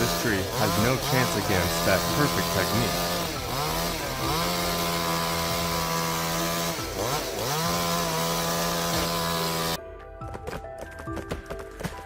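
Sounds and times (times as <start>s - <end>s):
chainsaw running: 0.0s - 9.8s.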